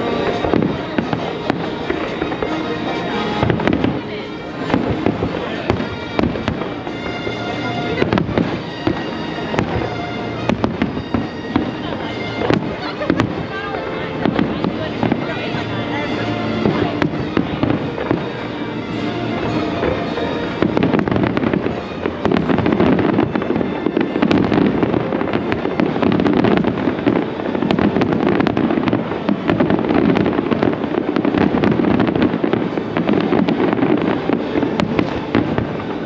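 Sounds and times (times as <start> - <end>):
fireworks booming and crackling: 0.0 - 36.0.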